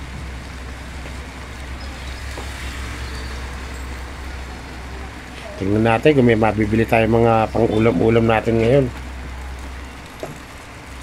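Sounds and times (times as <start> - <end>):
motorcycles passing: 0.0 - 11.0
tyres hissing on wet road: 0.0 - 11.0.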